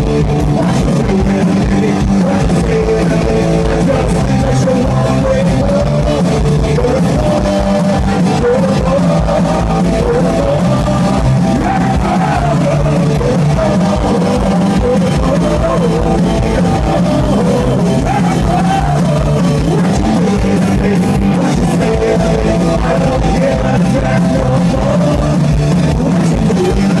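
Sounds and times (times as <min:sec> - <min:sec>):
punk rock band playing: 0:00.0 - 0:27.0
person singing: 0:00.4 - 0:27.0.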